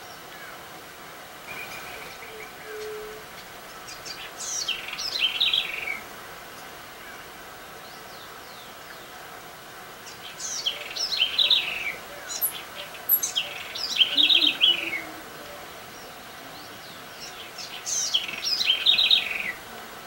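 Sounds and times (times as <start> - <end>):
songbird singing: 1.4 - 20.0.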